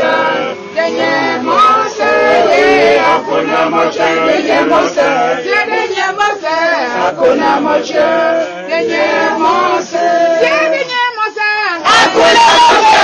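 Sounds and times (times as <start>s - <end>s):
choir singing: 0.0s - 10.8s, 11.8s - 13.0s.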